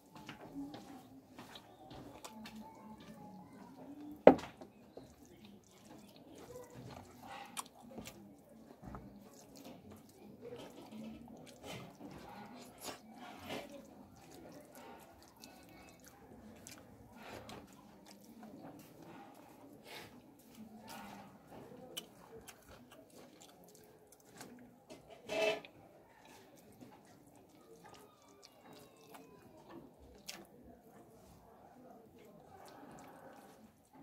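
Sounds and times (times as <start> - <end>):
wet chewing and lip smacks: 0.1 - 24.9, 25.8 - 34.0.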